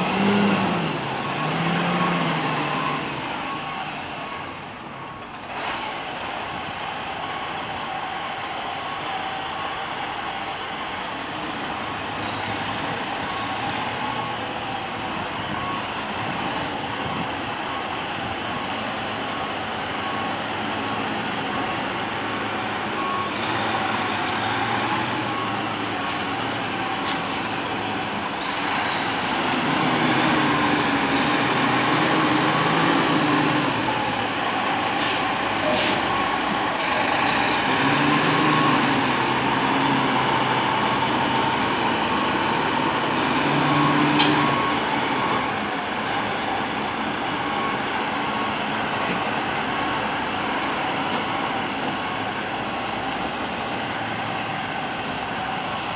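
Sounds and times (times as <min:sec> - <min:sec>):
diesel truck engine revving: 0:00.0 - 0:04.7, 0:05.3 - 0:55.9
reversing alarm beeping: 0:00.1 - 0:05.2, 0:12.3 - 0:54.6.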